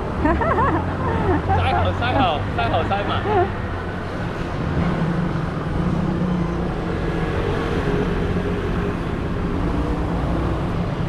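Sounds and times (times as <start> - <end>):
passing motor vehicles hum: 0.0 - 11.0.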